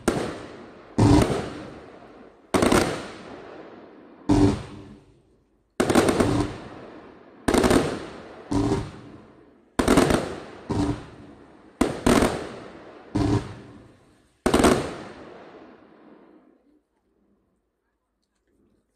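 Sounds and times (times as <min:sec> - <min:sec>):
fireworks bangs: 0:00.0 - 0:05.2, 0:05.8 - 0:16.4.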